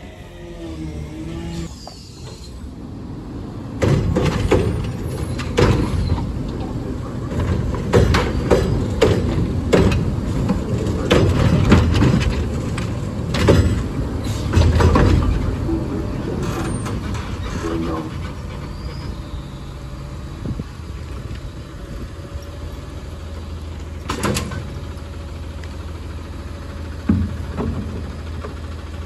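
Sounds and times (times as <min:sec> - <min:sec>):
garbage truck running: 0:00.0 - 0:29.0.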